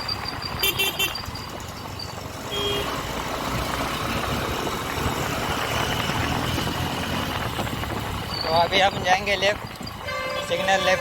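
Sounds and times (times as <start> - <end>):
motorcycle engine: 0.0 - 11.0
wind noise: 0.0 - 11.0.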